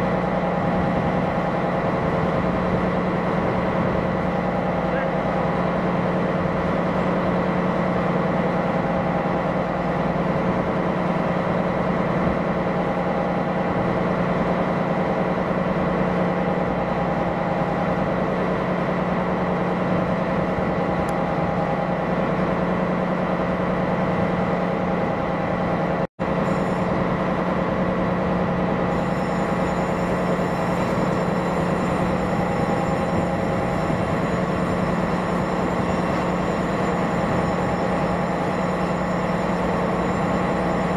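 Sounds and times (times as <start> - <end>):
boat diesel engine droning: 0.0 - 40.9.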